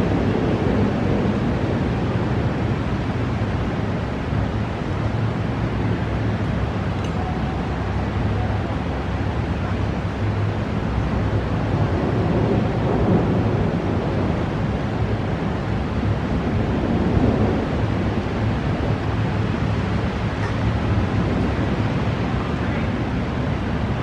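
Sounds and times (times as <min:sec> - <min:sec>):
thunderstorm rushing noise: 0:00.0 - 0:24.0.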